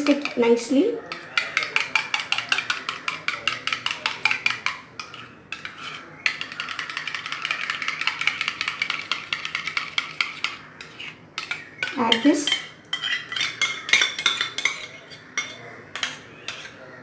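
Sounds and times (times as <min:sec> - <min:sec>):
spoon whisking in steel bowl: 0:00.0 - 0:16.8.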